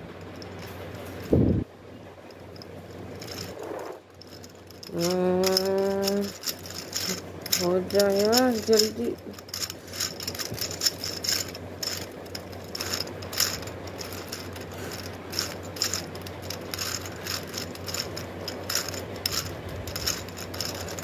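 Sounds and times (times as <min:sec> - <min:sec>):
plastic puzzle gears clicking: 0:02.5 - 0:03.6, 0:04.2 - 0:21.0.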